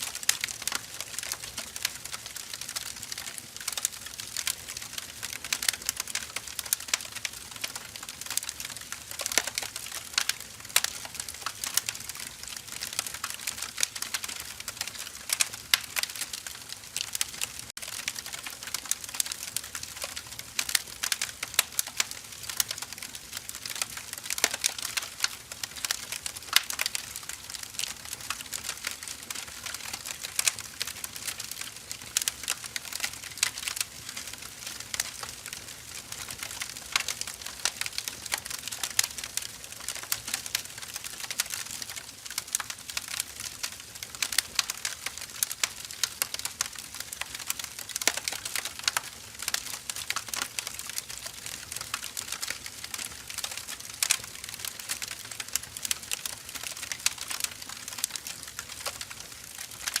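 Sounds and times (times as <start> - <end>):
burning firewood crackling: 0.0 - 60.0.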